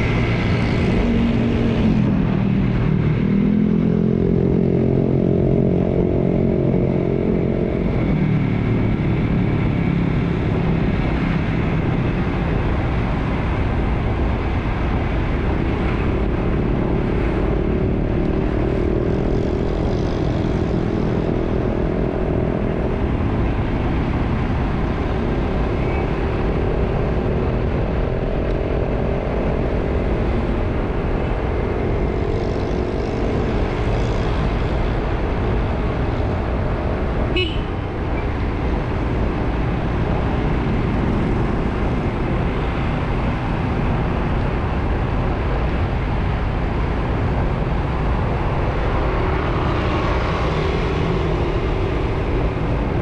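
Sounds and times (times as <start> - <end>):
motorcycle engine while riding: 0.0 - 53.0
wind and road noise: 0.0 - 53.0.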